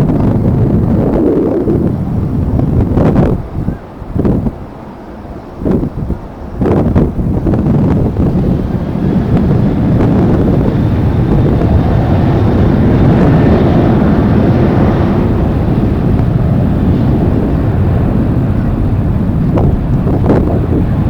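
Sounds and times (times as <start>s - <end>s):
jet engine noise: 0.0s - 21.0s
wind buffeting microphone: 0.0s - 21.0s.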